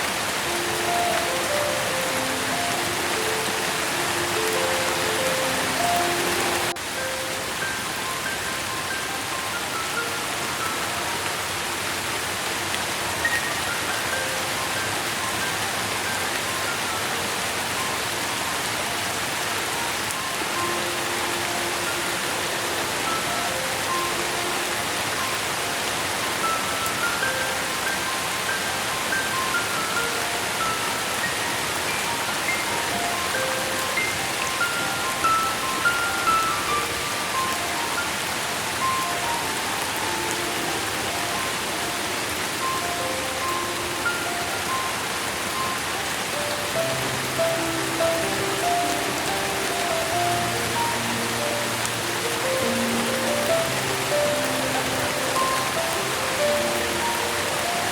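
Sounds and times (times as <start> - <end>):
slow soft melody: 0.0 - 57.9
soft sustained musical notes: 0.0 - 57.9
steady dense rainfall: 0.0 - 57.9.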